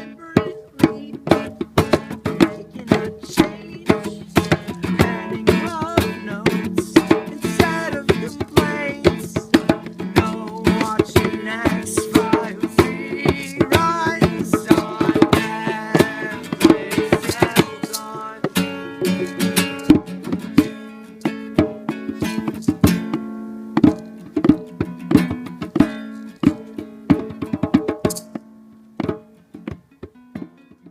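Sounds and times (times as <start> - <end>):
percussion: 0.0 - 30.9
plucked string music: 0.0 - 30.9.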